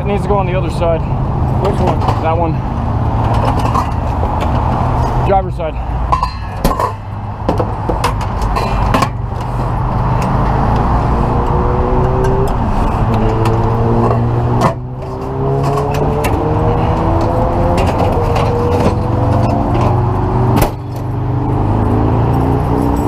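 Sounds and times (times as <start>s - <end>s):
traffic engines accelerating: 0.0s - 23.0s.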